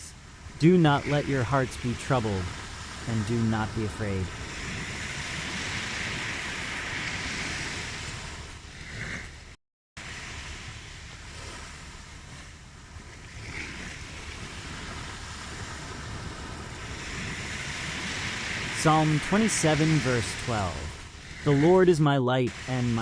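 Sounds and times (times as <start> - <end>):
ocean surf: 0.0 - 23.0.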